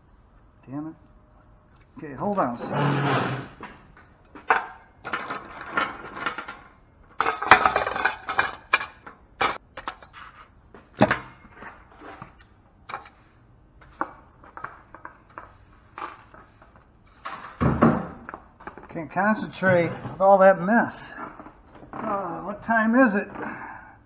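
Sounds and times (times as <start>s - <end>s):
scrap metal clattering and clinking: 2.4s - 23.8s.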